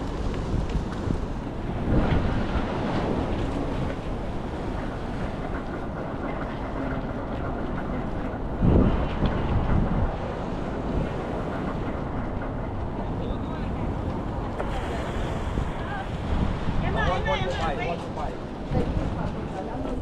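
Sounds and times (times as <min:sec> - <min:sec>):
steady low rumble: 0:00.0 - 0:20.0
wind buffeting microphone: 0:00.0 - 0:20.0.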